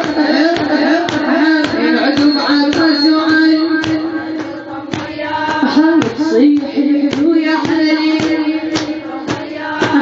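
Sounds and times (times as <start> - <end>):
steady beat of strikes: 0.0 - 10.0
woman chanting a lament: 0.0 - 10.0.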